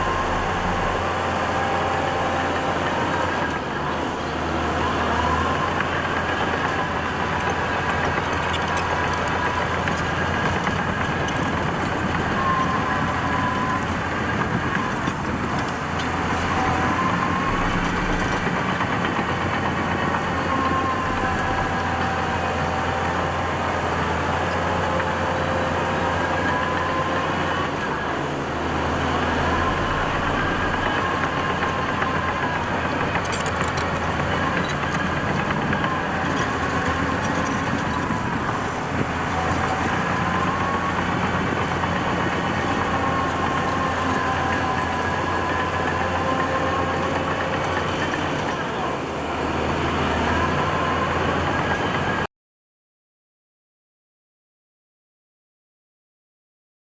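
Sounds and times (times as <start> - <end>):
heavy diesel engine running: 0.0 - 52.3.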